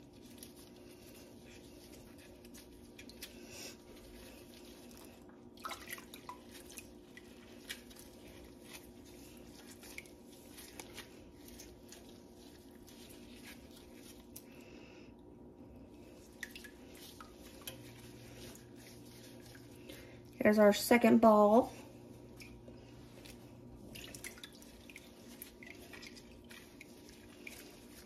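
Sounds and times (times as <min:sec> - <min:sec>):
faint steady hum: 0:00.0 - 0:28.0
soft squishing of cheese curd: 0:00.0 - 0:28.0
faint water drips: 0:00.1 - 0:20.9, 0:21.7 - 0:28.0.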